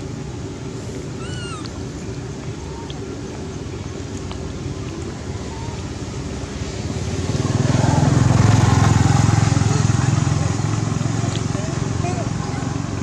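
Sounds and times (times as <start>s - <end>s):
engine running with pulsing hum: 0.0s - 13.0s.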